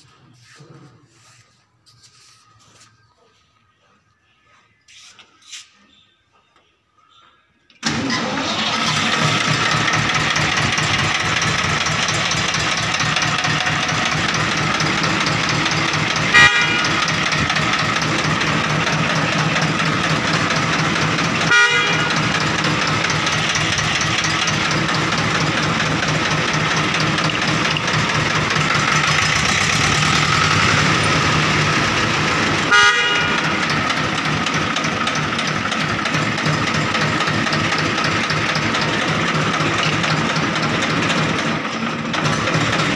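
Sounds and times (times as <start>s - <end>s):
tractor diesel engine running: 7.8s - 42.9s.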